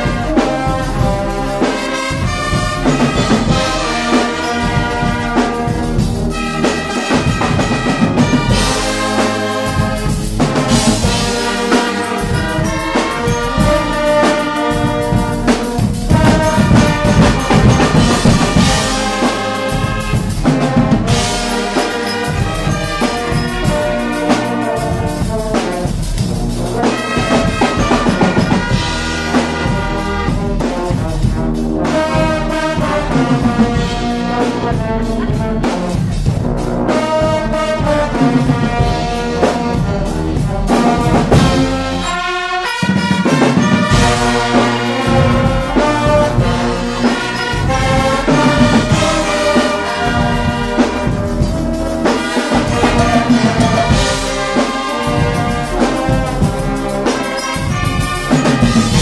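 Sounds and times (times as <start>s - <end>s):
brass band playing: 0.0s - 59.0s
drum kit with cymbals: 0.0s - 59.0s.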